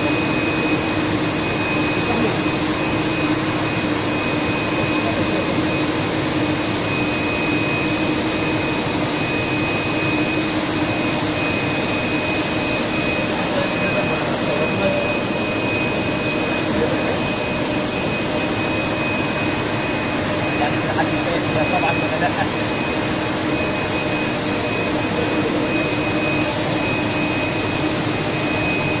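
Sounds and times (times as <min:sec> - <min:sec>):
high machine whine: 0:00.0 - 0:29.0
low machine hum: 0:00.0 - 0:29.0.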